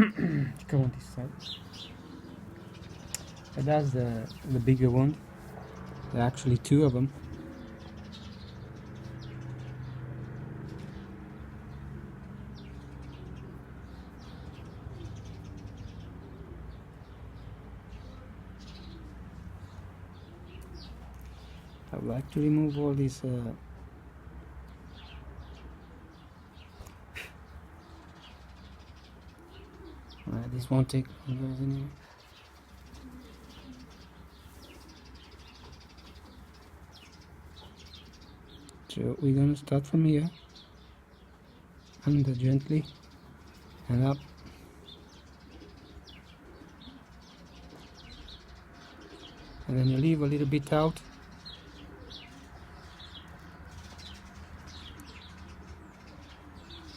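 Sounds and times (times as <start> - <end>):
pigeons cooing: 0.0 - 56.9
small birds chirping: 0.0 - 56.9.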